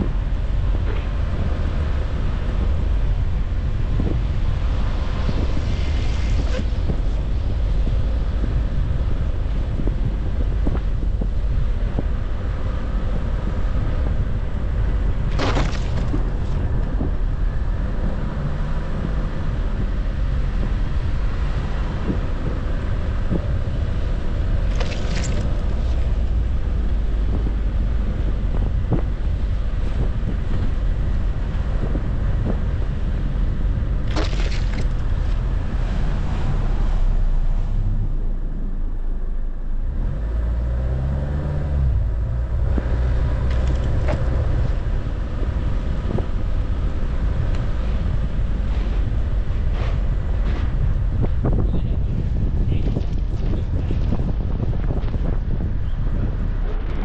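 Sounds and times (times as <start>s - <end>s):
car rumbling on packed snow: 0.0s - 57.0s.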